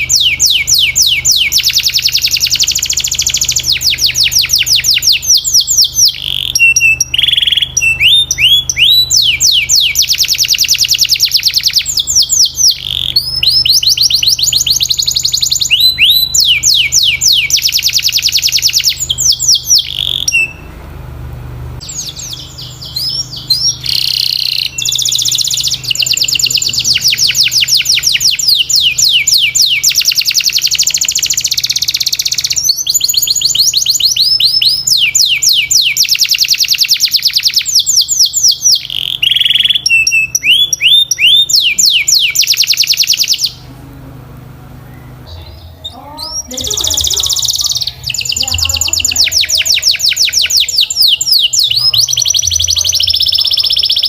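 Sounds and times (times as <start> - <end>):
canary singing trills: 0.0 - 20.8, 21.8 - 54.0.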